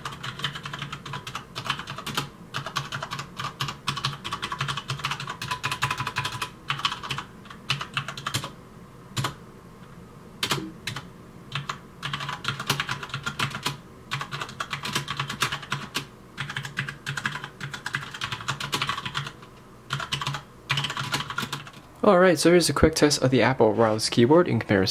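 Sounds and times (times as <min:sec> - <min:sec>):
mechanical keyboard typing: 0:00.0 - 0:08.5, 0:09.2 - 0:09.4, 0:10.4 - 0:21.8.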